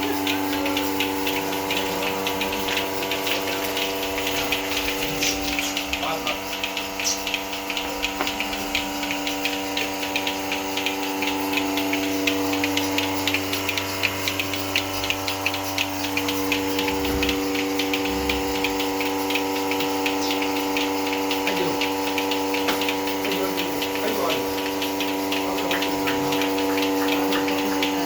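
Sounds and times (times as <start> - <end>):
milking machine vacuum pump hum: 0.0 - 28.0
pulsators hissing tick: 0.0 - 28.0.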